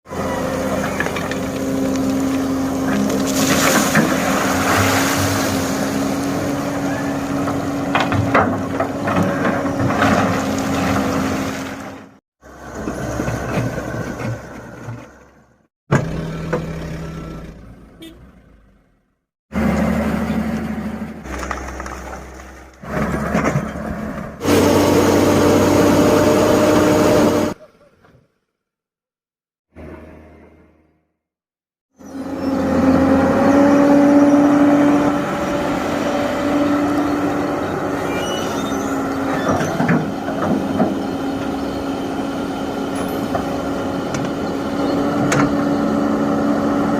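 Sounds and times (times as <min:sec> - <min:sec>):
excavator diesel engine running: 0:00.1 - 0:05.0, 0:05.8 - 0:18.2, 0:19.5 - 0:27.7, 0:32.0 - 0:46.9.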